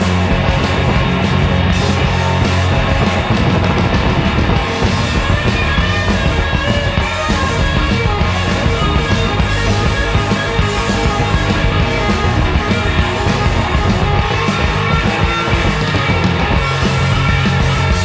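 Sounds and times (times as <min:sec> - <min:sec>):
bass guitar: 0:00.0 - 0:18.0
distorted electric guitar: 0:00.0 - 0:18.0
driving drums: 0:00.0 - 0:18.0.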